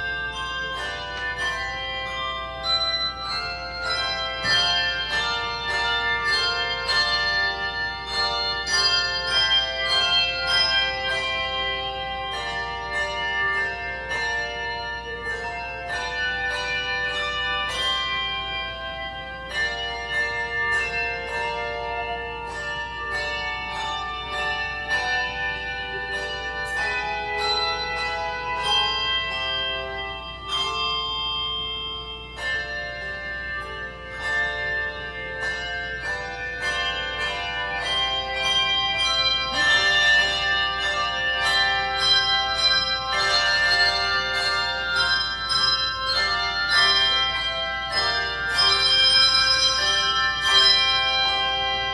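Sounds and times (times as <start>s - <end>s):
handbell choir playing: 0.0s - 51.9s.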